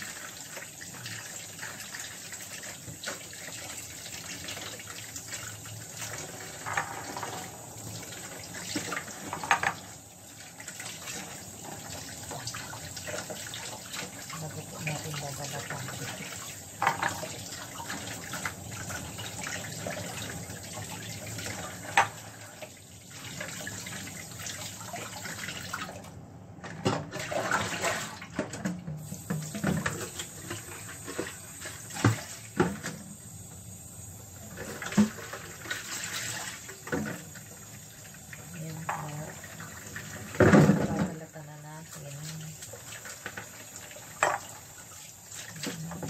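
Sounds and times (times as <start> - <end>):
potatoes scrubbed and splashing: 0.0 - 26.0, 27.1 - 28.4, 34.4 - 46.0
tap running into basin: 0.0 - 26.0, 26.8 - 33.7, 34.4 - 41.3, 41.9 - 46.0.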